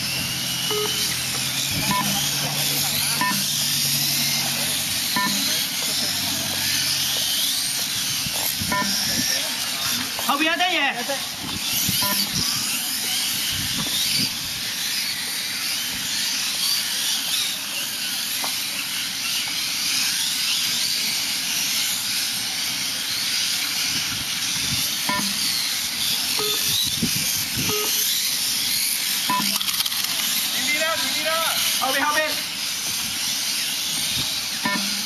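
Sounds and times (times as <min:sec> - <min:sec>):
high whine of electric motors: 0:00.0 - 0:35.0.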